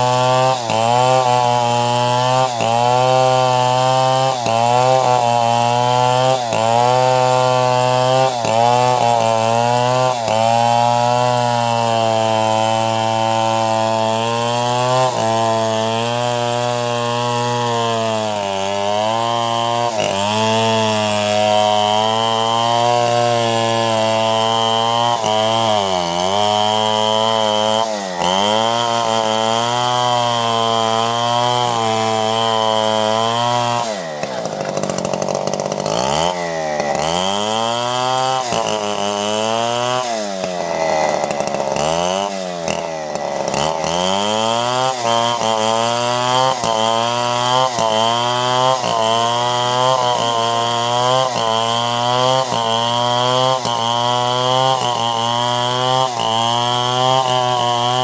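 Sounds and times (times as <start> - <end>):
chainsaw ripping a log: 0.0 - 58.0.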